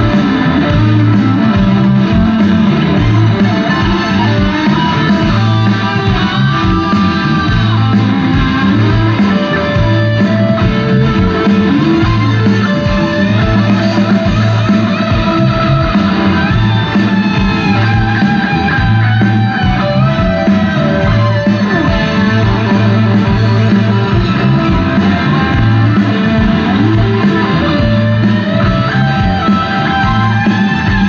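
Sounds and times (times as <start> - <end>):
electric guitar lines: 0.0 - 31.0
steady drum beat: 0.0 - 31.0
sustained bass: 0.0 - 31.0.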